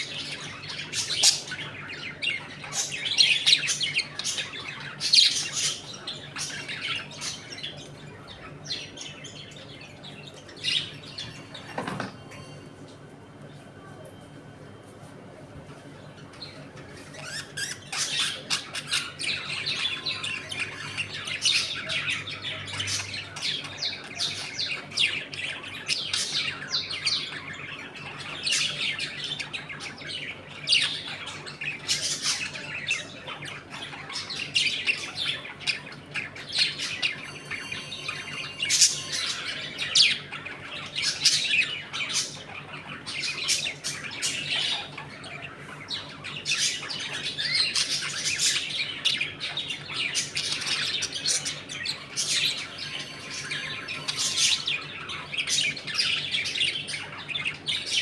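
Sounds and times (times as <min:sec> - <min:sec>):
budgerigars chattering: 0:00.0 - 0:12.1, 0:16.2 - 0:58.0.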